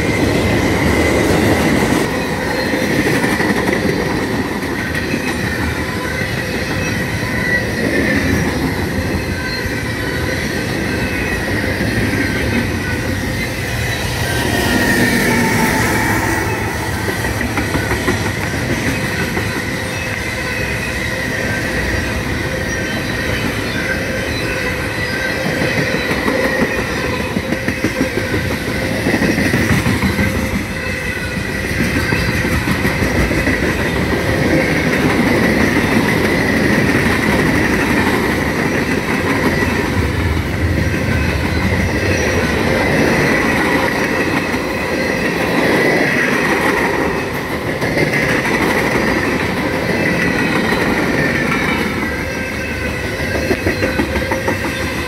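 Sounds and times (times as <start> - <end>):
high squeal of train wheels: 0.0 - 55.0
train wheels rumbling on rails: 0.0 - 55.0.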